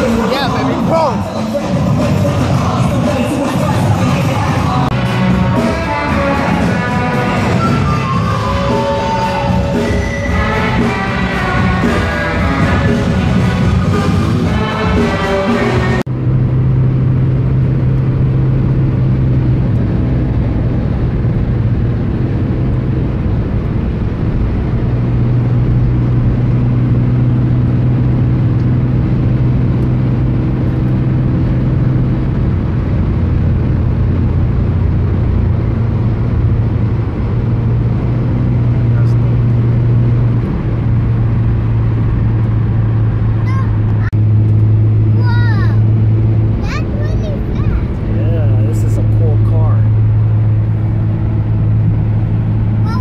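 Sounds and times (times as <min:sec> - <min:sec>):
car engine drone: 0:00.0 - 0:53.0
tyre and road noise: 0:00.0 - 0:53.0.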